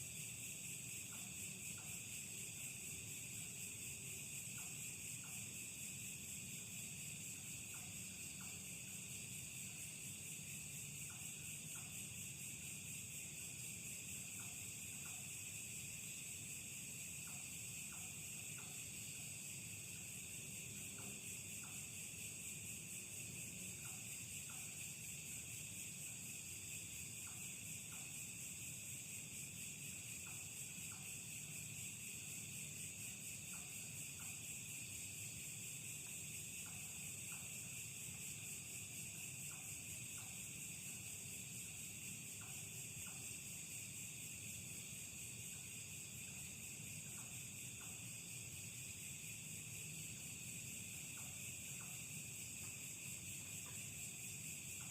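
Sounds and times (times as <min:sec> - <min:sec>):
crickets and night insects chorus: 0:00.0 - 0:54.9.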